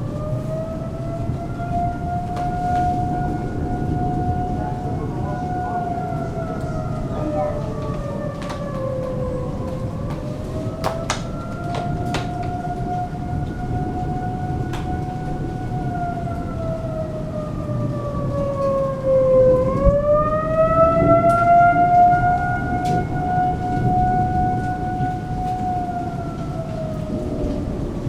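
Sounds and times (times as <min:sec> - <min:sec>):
steady rain: 0:00.0 - 0:28.0
tornado siren wailing: 0:00.0 - 0:28.0.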